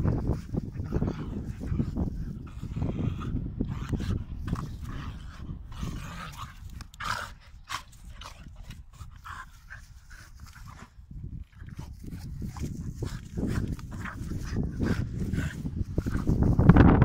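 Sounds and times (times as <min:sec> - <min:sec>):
dogs play-fighting: 0:00.0 - 0:16.7.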